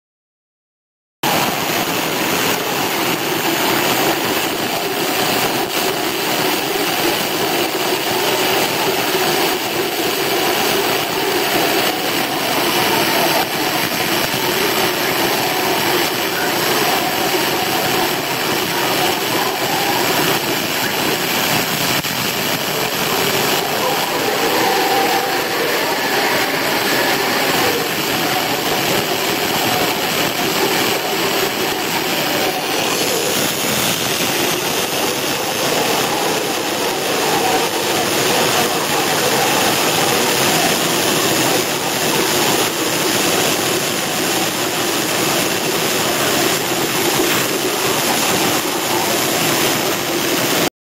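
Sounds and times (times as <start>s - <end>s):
water jet hissing through steel: 1.3s - 50.7s.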